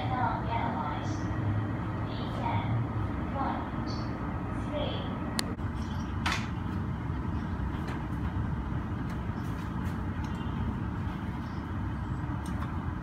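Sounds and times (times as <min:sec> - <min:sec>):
aircraft and ground vehicle rumble: 0:00.0 - 0:13.0.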